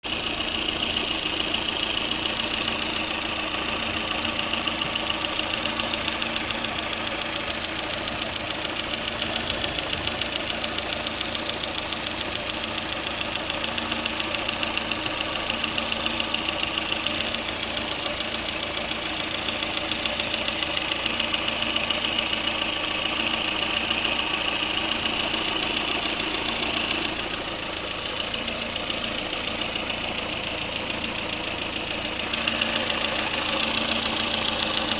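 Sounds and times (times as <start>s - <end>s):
car engine idling: 0.0s - 34.9s
rapid engine knocking: 0.0s - 34.9s.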